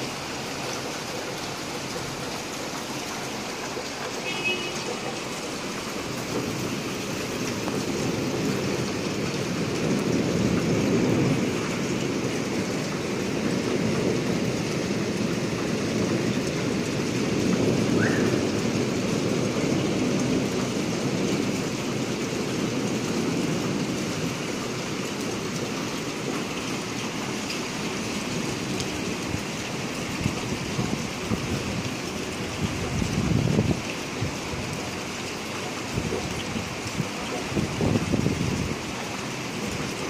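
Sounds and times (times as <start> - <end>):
rain falling on wet pavement: 0.0 - 40.0.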